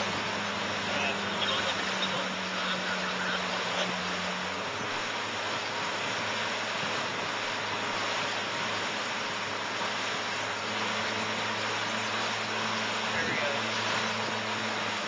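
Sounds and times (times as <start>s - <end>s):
boat engine drone: 0.0s - 15.0s
churning wake water rushing: 0.0s - 15.0s.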